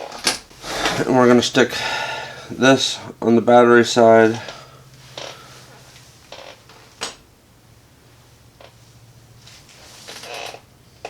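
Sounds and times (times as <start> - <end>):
rustling of wiring: 0.0 - 7.3, 8.1 - 11.0
steady low hum: 0.0 - 11.0.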